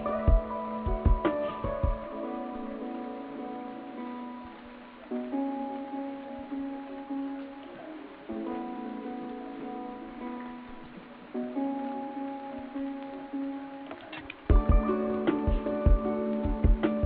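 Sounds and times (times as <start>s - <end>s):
plucked guitar chords: 0.0s - 17.0s.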